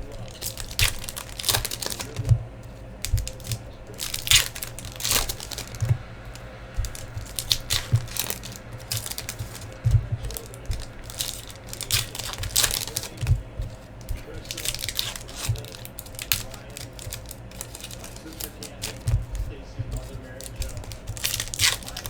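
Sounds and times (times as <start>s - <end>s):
card pack wrappers crinkling: 0.0s - 22.0s
soft thumps: 0.0s - 22.0s.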